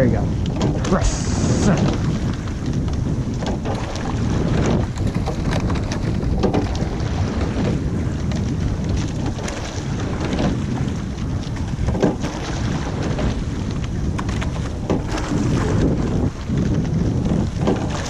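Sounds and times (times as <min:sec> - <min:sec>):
water rushing along boat: 0:00.0 - 0:18.0
wind buffeting microphone: 0:00.0 - 0:18.0
oars knocking in oarlocks: 0:00.4 - 0:18.0.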